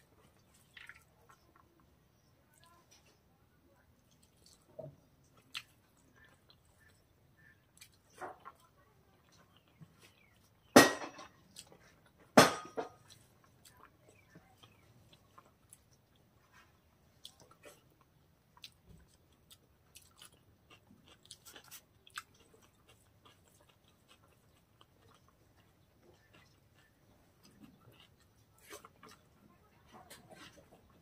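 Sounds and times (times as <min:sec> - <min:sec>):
loud crunches of chewing: 0:04.0 - 0:31.0.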